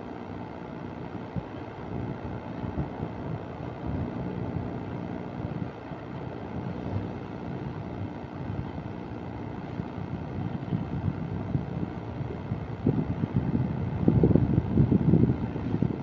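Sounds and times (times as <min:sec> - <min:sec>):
wind on microphone: 0:01.2 - 0:16.0.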